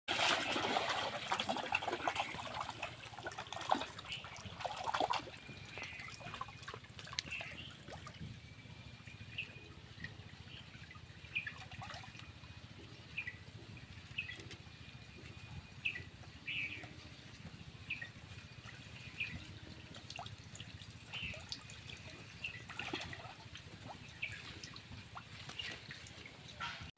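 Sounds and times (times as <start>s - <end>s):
water trickling: 0.1s - 26.8s
pond water splashing: 0.1s - 26.9s.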